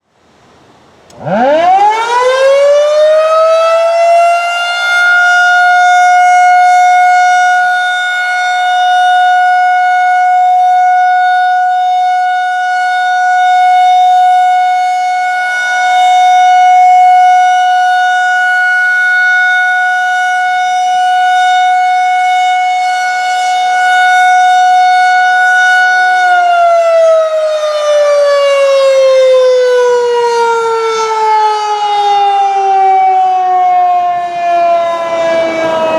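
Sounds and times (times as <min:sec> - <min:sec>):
rotating warning siren wailing: 0:01.1 - 0:35.9.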